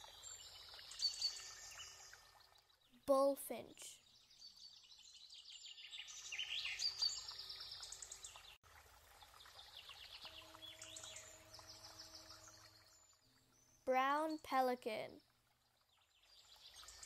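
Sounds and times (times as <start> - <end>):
songbirds trilling and chirping: 0.0 - 3.0, 4.0 - 8.6, 9.2 - 14.4, 15.2 - 17.0.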